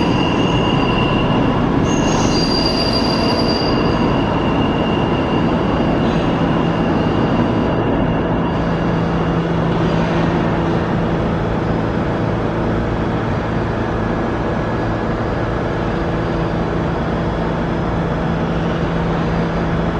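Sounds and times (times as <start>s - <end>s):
subway train rumbling in tunnel: 0.0s - 19.9s.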